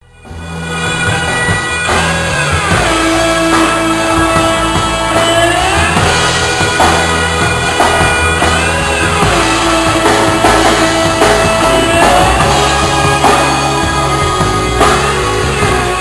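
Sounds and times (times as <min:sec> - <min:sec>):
rock band instrumental: 0:00.0 - 0:16.0
sliding lead melody: 0:00.0 - 0:16.0
drum hits: 0:00.3 - 0:16.0.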